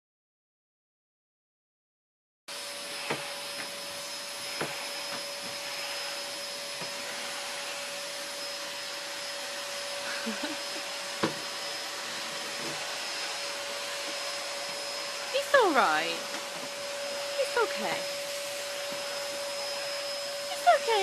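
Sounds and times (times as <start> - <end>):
vacuum cleaner running: 2.5 - 21.0.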